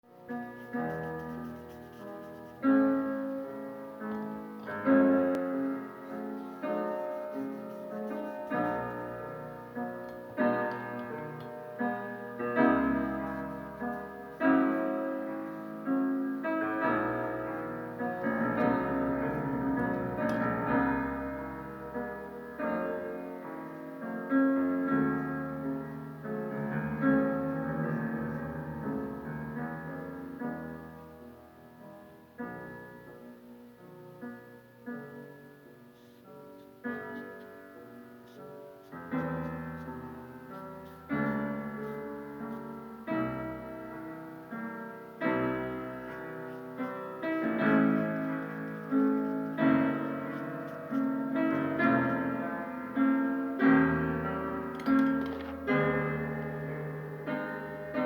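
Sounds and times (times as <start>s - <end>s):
slow solo piano music: 0.0s - 58.0s.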